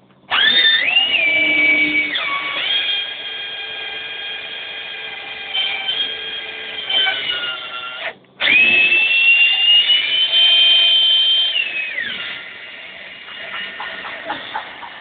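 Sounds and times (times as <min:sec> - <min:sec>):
electric drill motor whining: 0:00.3 - 0:15.0.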